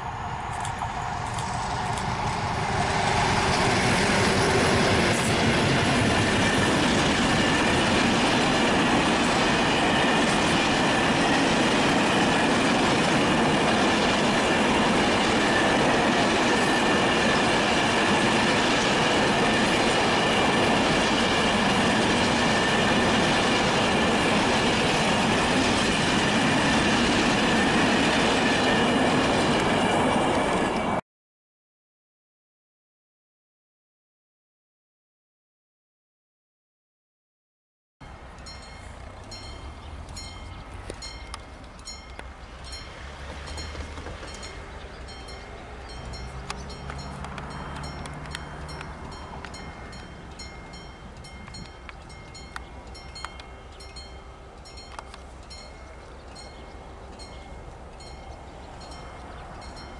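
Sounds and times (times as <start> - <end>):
train wheels rushing on rails: 0.0 - 31.0, 38.1 - 59.9.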